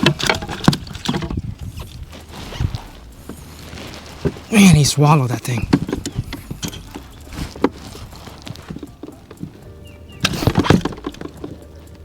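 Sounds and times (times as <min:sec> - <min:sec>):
fish knocking and rattling in boat: 0:00.0 - 0:12.0
thumps: 0:00.0 - 0:12.0.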